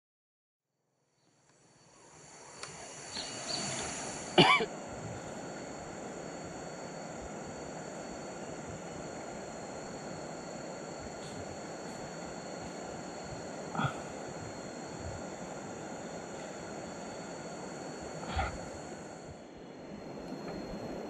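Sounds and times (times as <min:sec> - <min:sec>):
high steady whine: 0:01.5 - 0:21.0.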